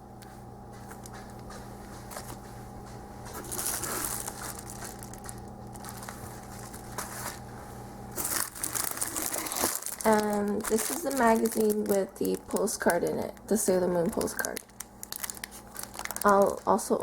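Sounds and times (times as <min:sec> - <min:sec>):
low electrical hum: 0:00.0 - 0:17.0
packaging and paper crinkling: 0:00.8 - 0:07.5, 0:08.1 - 0:17.0.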